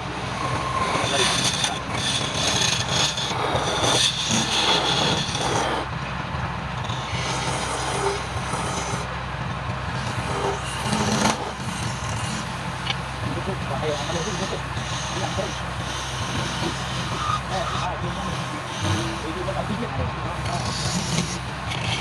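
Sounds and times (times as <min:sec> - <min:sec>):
rough cutting noise: 0:00.0 - 0:22.0
wood lathe humming: 0:00.0 - 0:22.0.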